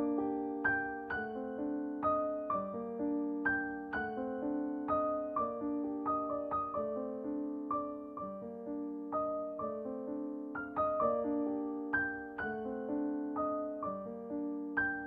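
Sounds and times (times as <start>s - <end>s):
gentle solo piano: 0.0s - 15.0s.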